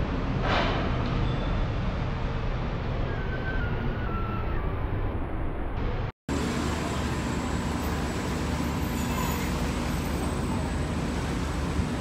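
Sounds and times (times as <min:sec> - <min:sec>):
ferry engine rumble: 0:00.0 - 0:12.0.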